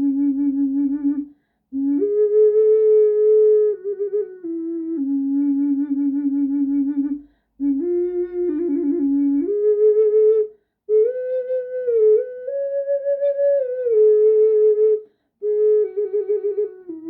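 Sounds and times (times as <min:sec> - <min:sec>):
ocarina melody: 0:00.0 - 0:17.0.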